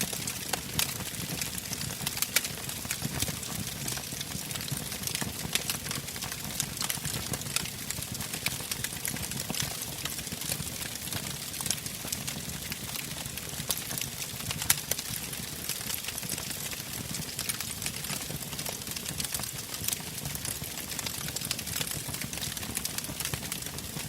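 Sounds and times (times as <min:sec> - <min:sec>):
flame hiss and rumble: 0:00.0 - 0:24.0
wood fire crackling and popping: 0:00.0 - 0:24.0.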